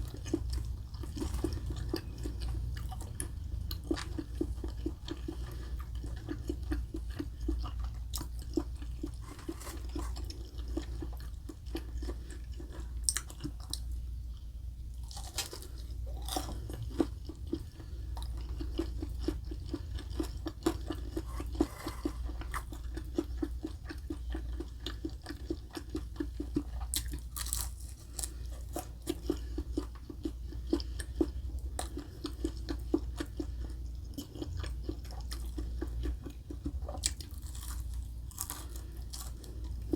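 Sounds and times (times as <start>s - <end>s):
crunchy chewing: 0.0s - 39.9s
low steady hum: 0.0s - 39.9s.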